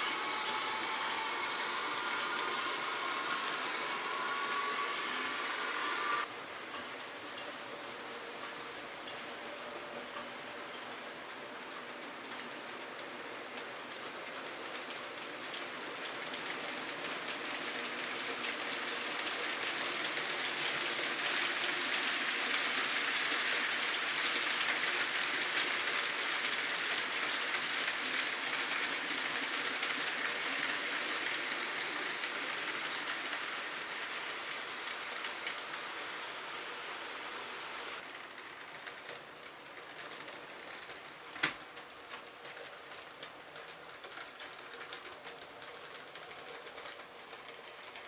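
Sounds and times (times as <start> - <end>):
model train wheels rattling on rails: 0.0 - 7.0, 10.2 - 48.0.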